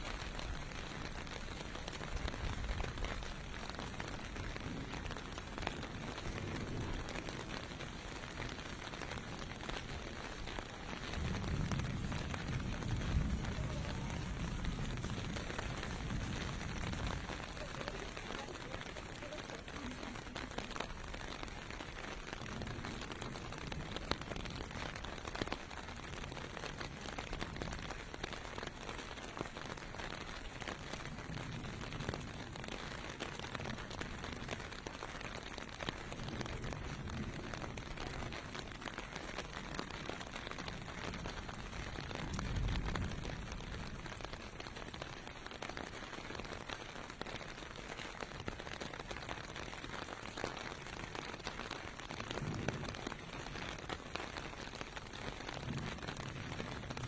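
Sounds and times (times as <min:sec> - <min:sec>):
rain falling on pavement: 0:00.0 - 0:57.0.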